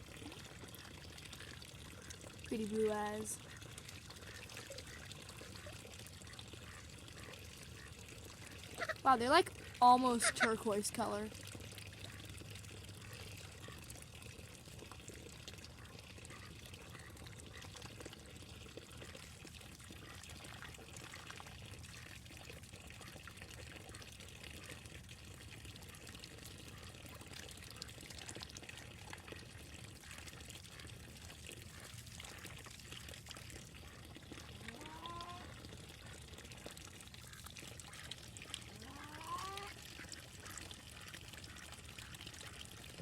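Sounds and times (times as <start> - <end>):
water trickling and splashing: 0.0 - 43.0.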